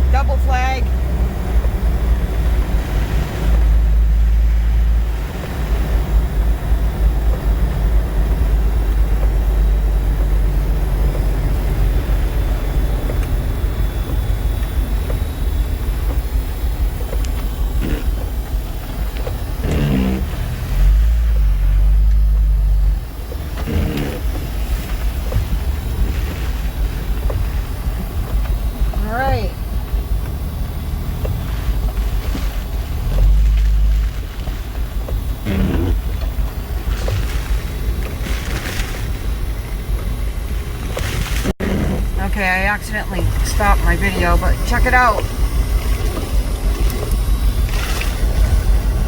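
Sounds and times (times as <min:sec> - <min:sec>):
vehicle engine rumble and road noise: 0:00.0 - 0:49.0.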